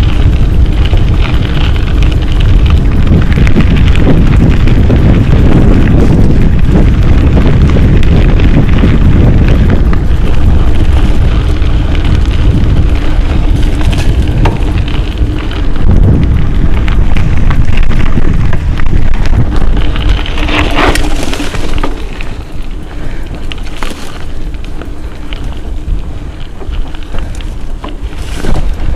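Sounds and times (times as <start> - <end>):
bike rattling over ground: 0.0 - 28.9
wind rumble on microphone: 0.0 - 28.9.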